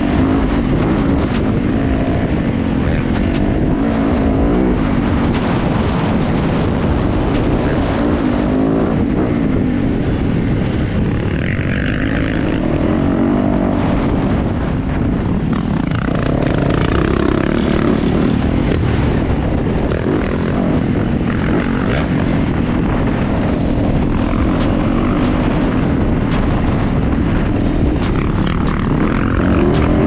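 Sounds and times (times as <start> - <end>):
dirt bike engine revving: 0.0 - 14.4, 15.1 - 30.0.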